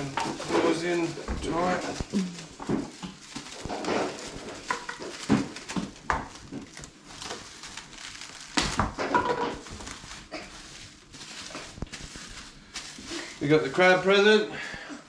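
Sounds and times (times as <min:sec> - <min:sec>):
cling wrap crinkling and squeaking: 0:00.0 - 0:14.5.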